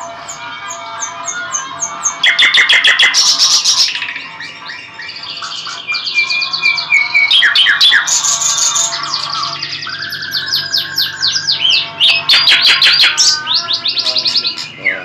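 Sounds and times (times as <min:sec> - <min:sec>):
nightingale singing: 0:00.0 - 0:15.0.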